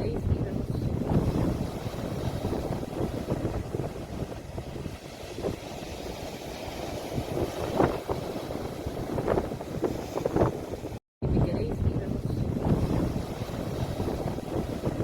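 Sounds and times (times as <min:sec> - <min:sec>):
ocean waves washing ashore: 0:00.0 - 0:15.0
wind rumbling on microphone: 0:00.0 - 0:15.0.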